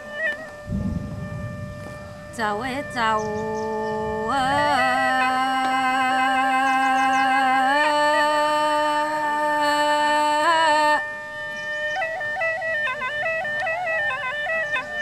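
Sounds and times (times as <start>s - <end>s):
reedy wind instrument: 0.0s - 15.0s.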